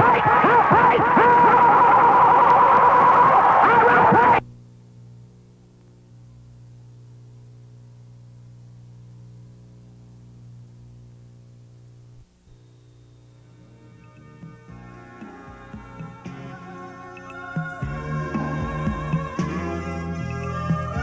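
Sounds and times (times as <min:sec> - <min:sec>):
buzzy mains hum: 0:00.0 - 0:21.0.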